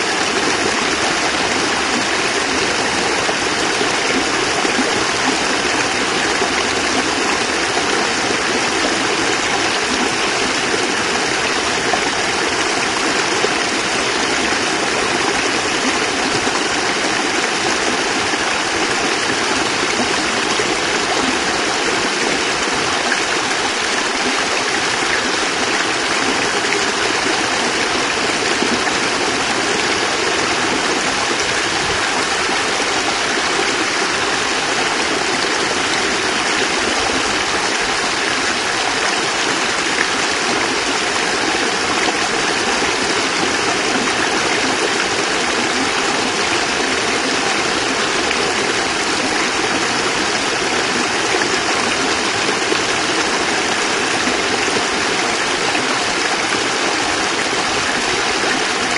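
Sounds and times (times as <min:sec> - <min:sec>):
water rushing over rocks: 0:00.0 - 0:58.9.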